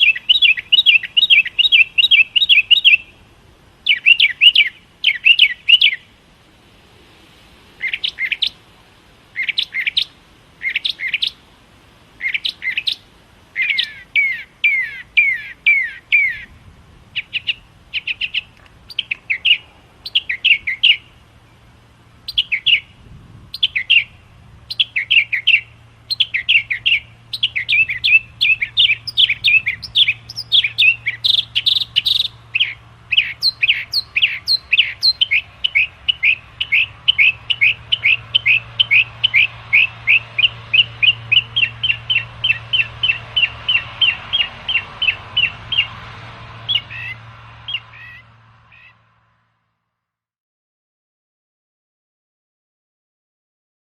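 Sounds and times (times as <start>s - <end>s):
songbirds chirping: 0.0s - 49.4s.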